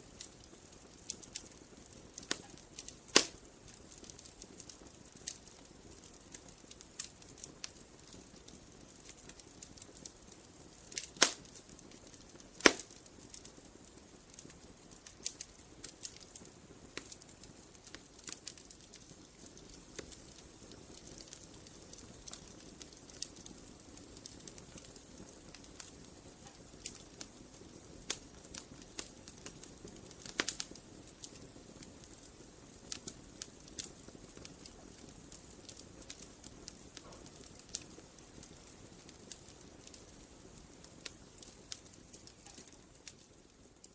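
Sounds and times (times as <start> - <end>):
loud fire pops: 0.0 - 43.8
wood fire crackling: 0.0 - 43.9.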